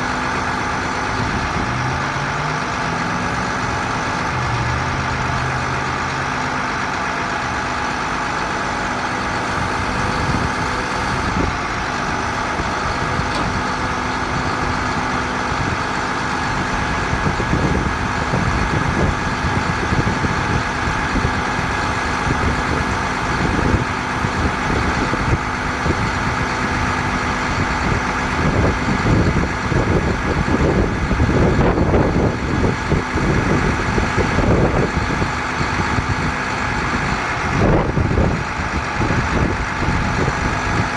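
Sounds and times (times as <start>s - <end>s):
truck engine idling: 0.0s - 40.9s
uneven low rumbles: 0.0s - 40.9s.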